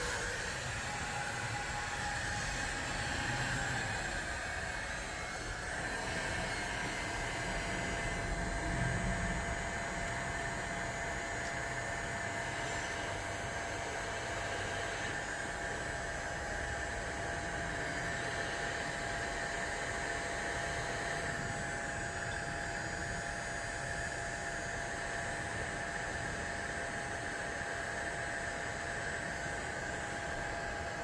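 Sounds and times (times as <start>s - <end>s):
electric air blower whooshing: 0.0s - 31.0s.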